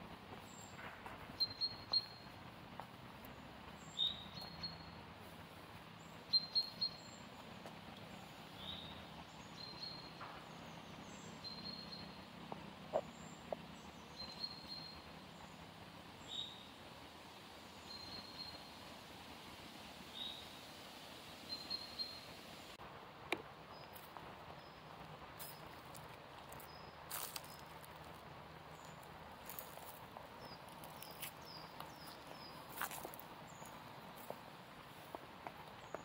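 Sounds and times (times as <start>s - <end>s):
small birds chirping: 0.0s - 16.8s, 17.8s - 18.9s, 20.1s - 22.5s, 23.7s - 36.0s
faint outdoor background hum: 0.0s - 36.0s.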